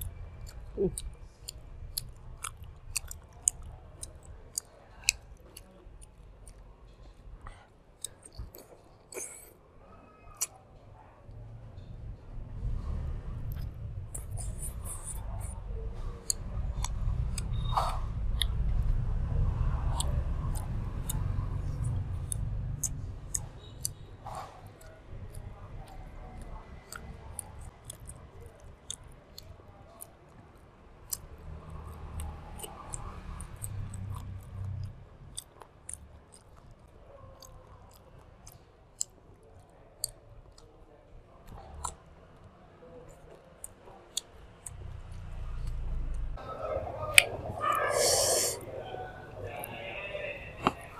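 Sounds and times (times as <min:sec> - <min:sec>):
close-up chewing with mouth smacks: 0:00.0 - 0:09.5, 0:12.8 - 0:46.2, 0:47.0 - 0:48.6.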